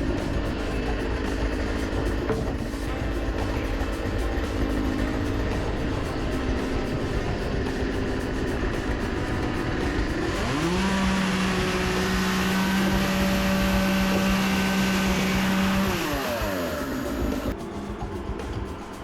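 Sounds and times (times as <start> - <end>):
power tool motor spinning: 0.0 - 17.6.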